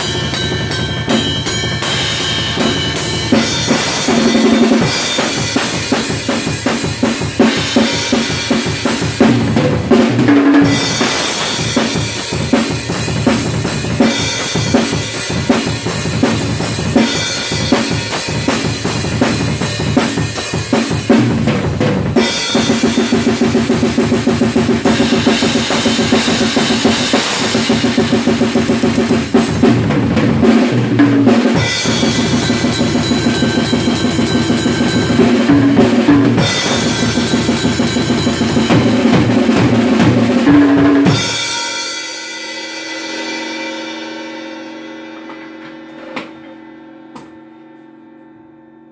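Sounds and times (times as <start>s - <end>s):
cymbal crashes: 0.0s - 9.6s, 10.6s - 21.1s, 22.2s - 29.6s, 31.6s - 39.0s, 41.0s - 47.3s
drum kit played hard: 0.0s - 46.3s.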